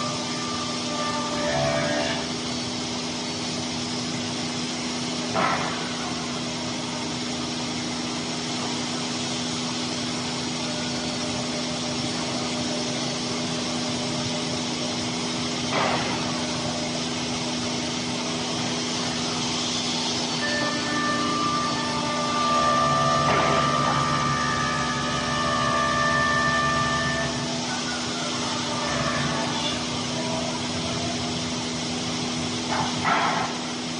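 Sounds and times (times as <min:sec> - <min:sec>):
cnc machine hum: 0:00.0 - 0:33.9.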